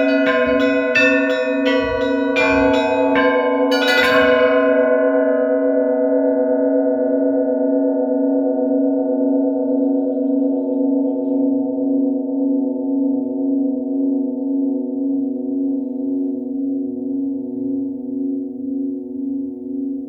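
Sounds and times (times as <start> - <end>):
church bells ringing: 0.0 - 19.6
low bell humming: 0.0 - 20.0.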